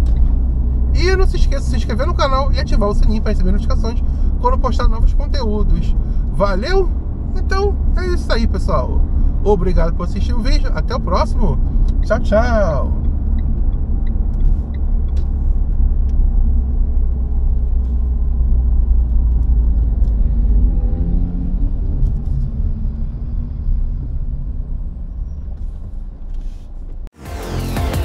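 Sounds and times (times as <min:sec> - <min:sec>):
faint engine tone: 0:00.0 - 0:19.0, 0:20.0 - 0:27.1
car cabin engine and road rumble: 0:00.0 - 0:27.2.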